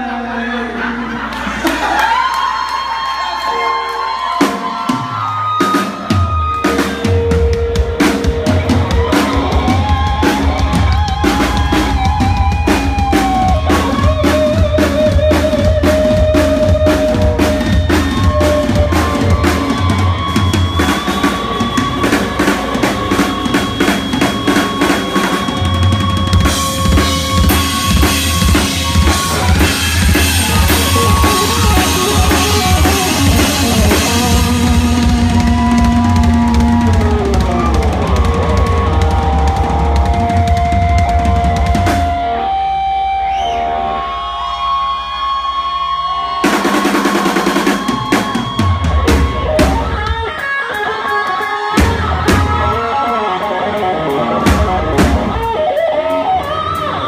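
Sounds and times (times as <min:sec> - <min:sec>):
rock band playing: 0:00.0 - 0:57.0
electric guitar: 0:03.5 - 0:57.0
drum kit beat: 0:04.3 - 0:43.6, 0:46.4 - 0:57.0.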